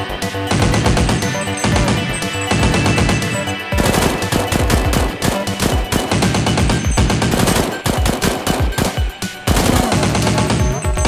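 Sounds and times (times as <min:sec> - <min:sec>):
automatic gunfire bursts: 0:00.5 - 0:11.0.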